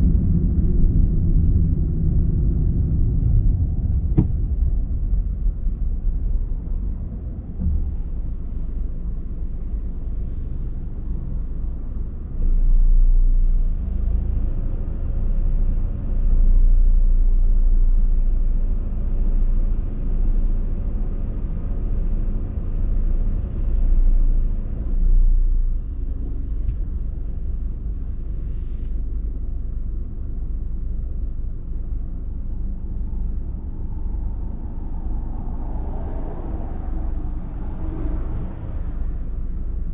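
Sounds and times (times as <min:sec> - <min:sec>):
car engine and tyres rumbling: 0:00.0 - 0:39.9
faint steady hum: 0:00.0 - 0:39.9.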